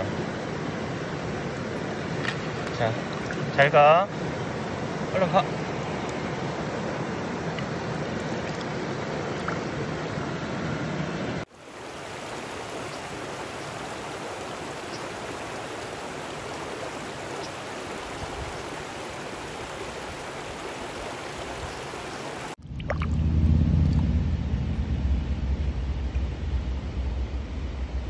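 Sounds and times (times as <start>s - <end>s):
water rushing over rocks: 0.0s - 23.2s.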